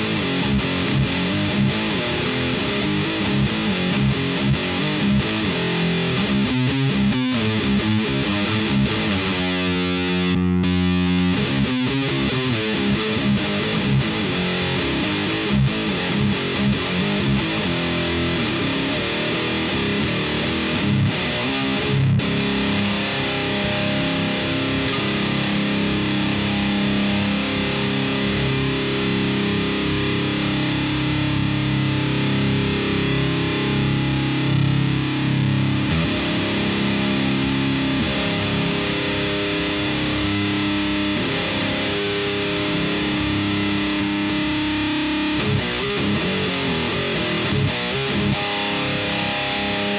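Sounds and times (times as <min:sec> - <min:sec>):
distorted electric guitar riff: 0:00.0 - 0:49.9.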